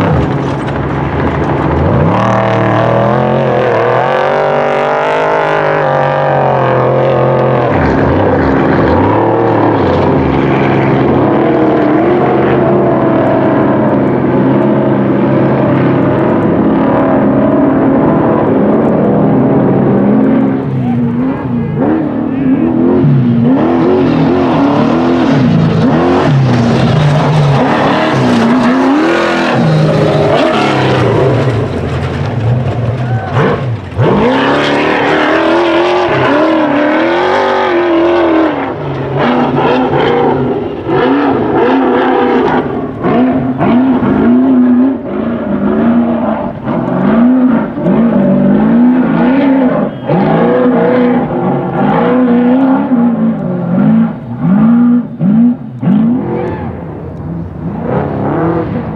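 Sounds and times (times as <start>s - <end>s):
truck engine running hard: 0.0s - 58.9s.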